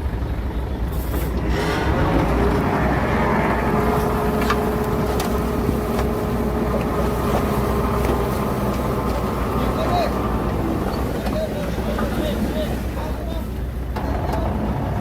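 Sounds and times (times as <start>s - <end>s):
diesel machinery engine rumble: 0.0s - 15.0s.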